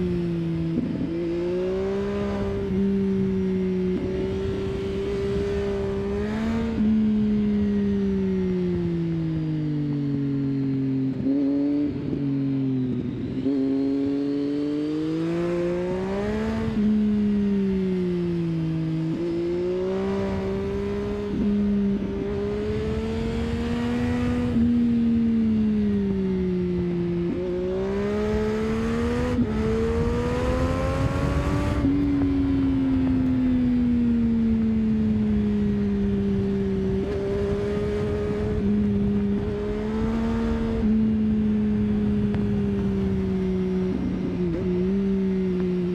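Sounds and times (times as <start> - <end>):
motorcycle engine revving: 0.0 - 45.9
wind and road noise: 0.0 - 45.9.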